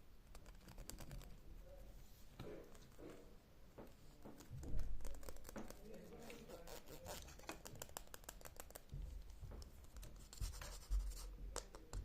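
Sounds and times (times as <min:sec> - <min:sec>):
scratching and light tapping: 0:02.4 - 0:12.0.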